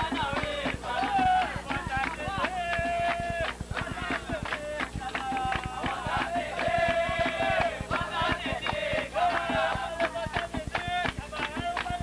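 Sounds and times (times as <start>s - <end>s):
chant-like singing: 0.0s - 12.0s
steady percussion beat: 0.0s - 12.0s.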